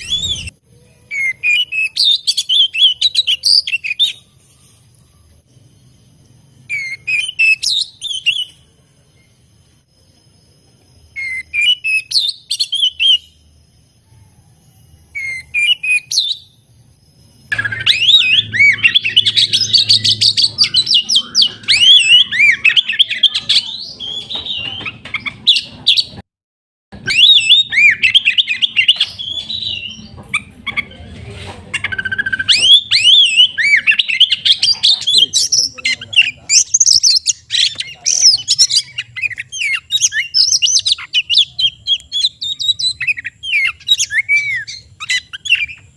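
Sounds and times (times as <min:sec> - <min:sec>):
magpie-robin singing: 0:00.0 - 0:04.3, 0:06.6 - 0:09.4, 0:11.1 - 0:13.4, 0:15.1 - 0:16.6, 0:17.5 - 0:26.2, 0:27.0 - 0:31.1, 0:31.7 - 0:45.9.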